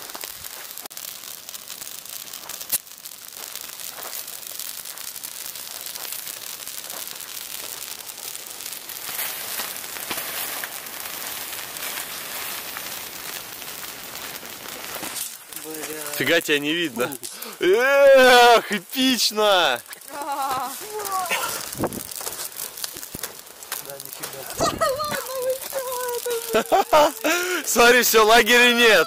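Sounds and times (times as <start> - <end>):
bonfire crackling and popping: 0.0 - 29.0.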